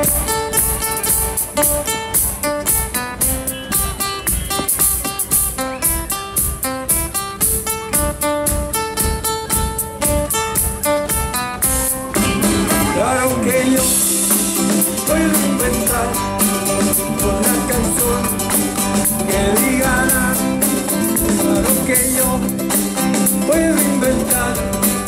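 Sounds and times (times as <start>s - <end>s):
live folk-rock band playing: 0.0s - 25.0s
plucked guitar: 0.0s - 25.0s.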